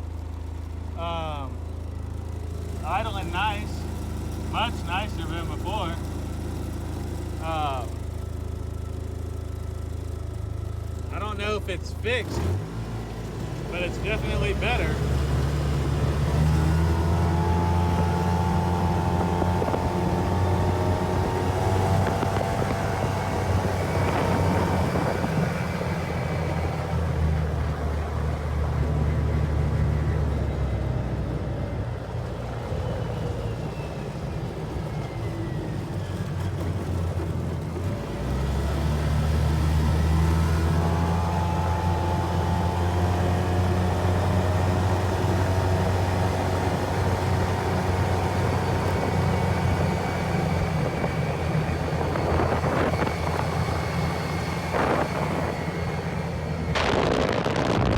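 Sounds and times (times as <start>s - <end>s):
utility vehicle engine running: 0.0s - 57.9s.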